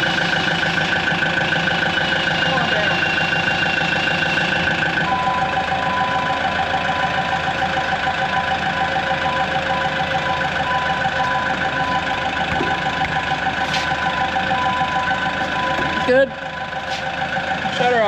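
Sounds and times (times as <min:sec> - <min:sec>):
dozer diesel engine running: 0:00.0 - 0:18.0.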